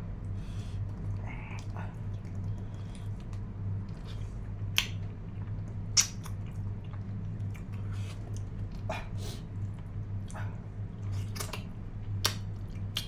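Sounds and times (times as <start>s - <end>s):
steady low hum: 0.0s - 13.0s
close chewing and biting: 0.6s - 13.0s
wet mouth clicks: 0.9s - 5.1s, 6.0s - 10.4s, 11.1s - 13.0s.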